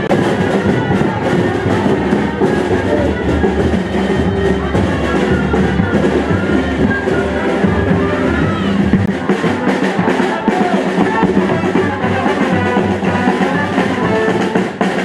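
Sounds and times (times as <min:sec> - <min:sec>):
street band with wind and drums: 0:00.0 - 0:15.0.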